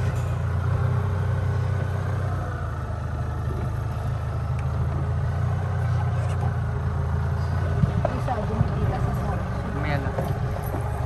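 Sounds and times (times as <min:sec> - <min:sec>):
golf cart driving: 0:00.0 - 0:11.0.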